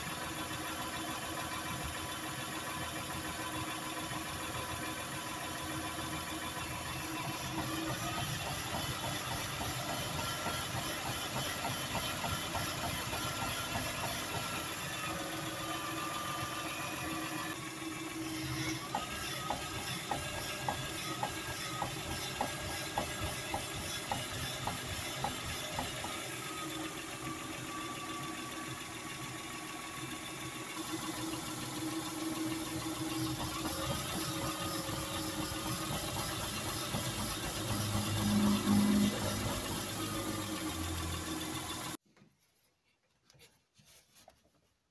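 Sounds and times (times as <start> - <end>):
minivan engine idling with whine: 0.0 - 42.0.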